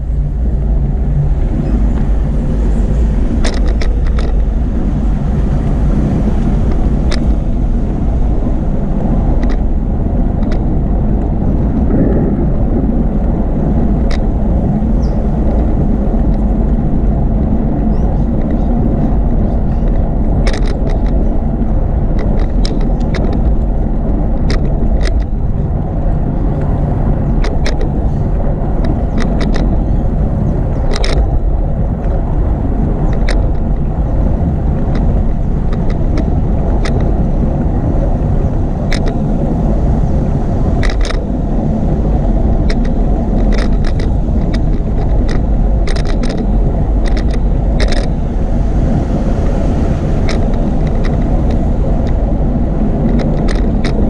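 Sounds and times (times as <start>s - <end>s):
wind and road noise: 0.0s - 54.0s
bicycle clicks and rattles: 1.0s - 54.0s.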